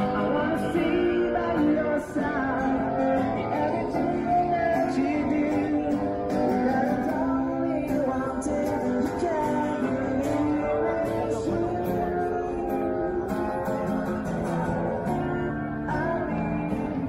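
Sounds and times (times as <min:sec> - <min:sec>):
guitar: 0:00.0 - 0:17.0
person singing: 0:00.0 - 0:17.0.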